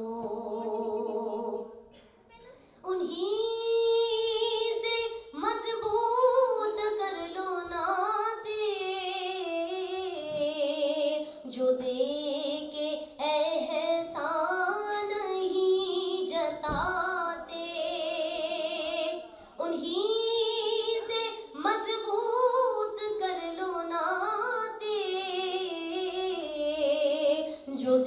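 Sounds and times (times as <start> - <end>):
woman singing unaccompanied: 0.0 - 1.8, 2.9 - 28.0.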